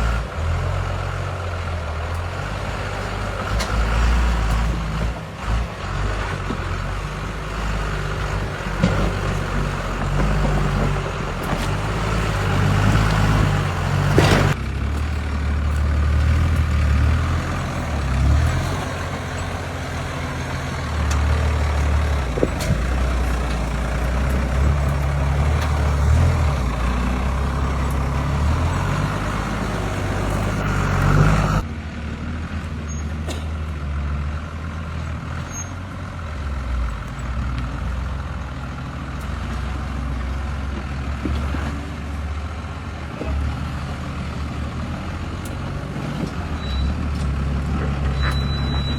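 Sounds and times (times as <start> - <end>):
off-road truck engines revving: 0.0 - 48.9.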